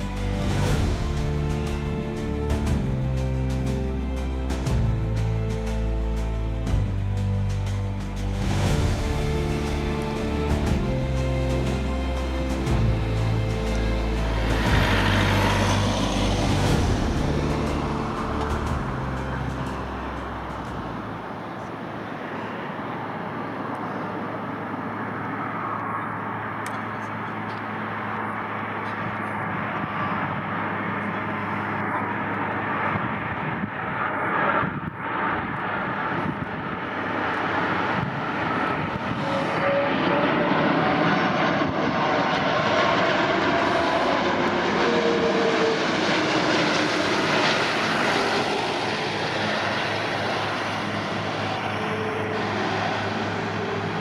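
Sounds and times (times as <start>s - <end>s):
airplane engine rushing: 0.0s - 54.0s
faint rising whine: 8.4s - 32.7s, 34.2s - 54.0s.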